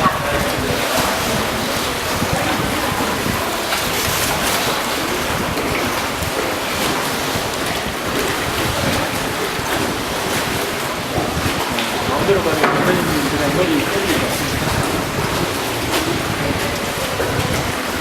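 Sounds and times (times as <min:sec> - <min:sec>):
water rushing around boat: 0:00.0 - 0:18.0
wind on microphone: 0:00.0 - 0:18.0.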